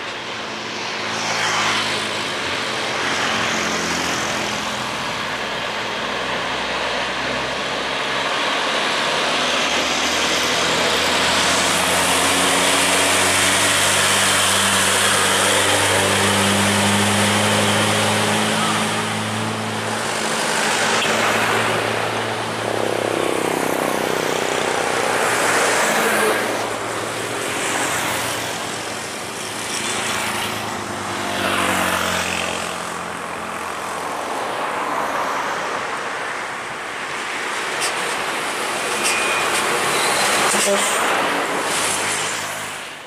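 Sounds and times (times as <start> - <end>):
trucks and traffic driving past: 0.0 - 43.0.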